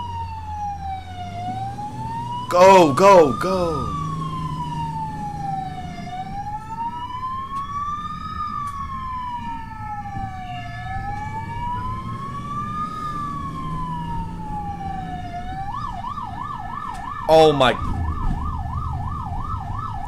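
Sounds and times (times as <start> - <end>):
road noise: 0.0 - 20.0
siren wailing: 0.0 - 20.0.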